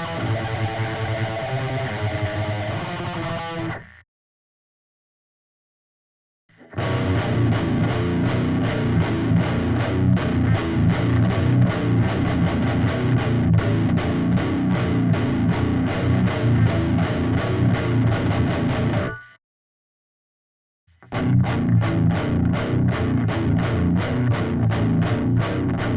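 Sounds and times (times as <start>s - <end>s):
distorted electric guitar metal riff: 0.0s - 4.0s, 6.5s - 19.4s, 21.0s - 25.9s.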